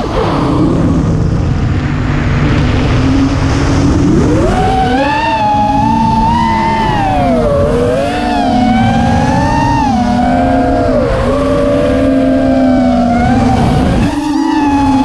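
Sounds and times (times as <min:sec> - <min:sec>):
quadcopter motors whining: 0:02.6 - 0:15.0.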